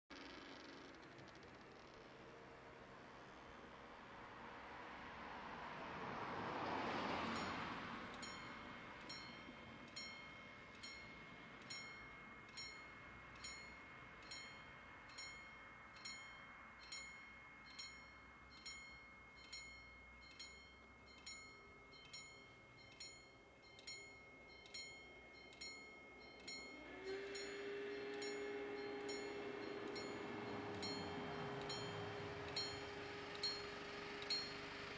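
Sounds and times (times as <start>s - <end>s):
car passing: 2.2s - 24.4s, 26.8s - 34.9s
level crossing warning bell: 6.3s - 34.9s.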